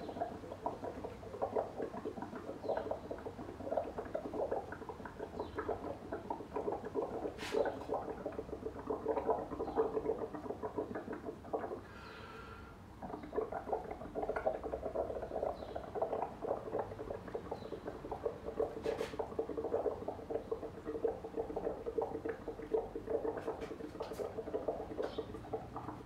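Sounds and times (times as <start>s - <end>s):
air bubbling through liquid: 0.0s - 26.0s.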